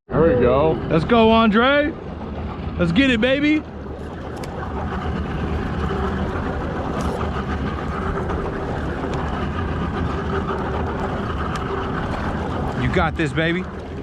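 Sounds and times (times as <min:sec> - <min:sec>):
boat engine running: 0:00.1 - 0:14.0
water noise: 0:00.1 - 0:14.0
wind: 0:00.1 - 0:14.0.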